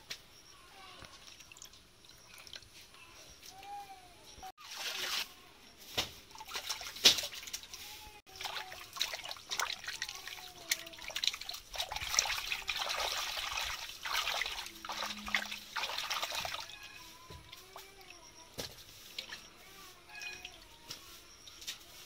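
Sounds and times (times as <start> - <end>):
water splashing and sloshing in pot: 1.2 - 2.9, 4.6 - 5.3, 6.0 - 21.7.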